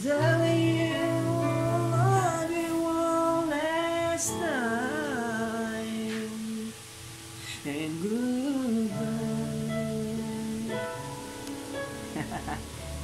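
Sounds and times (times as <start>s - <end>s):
man singing a slow ballad: 0.0s - 6.8s, 7.4s - 11.2s.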